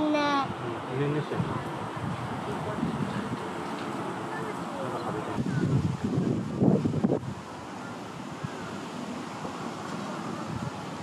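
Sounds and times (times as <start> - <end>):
wind noise on microphone: 0.4 - 3.6, 5.2 - 11.0.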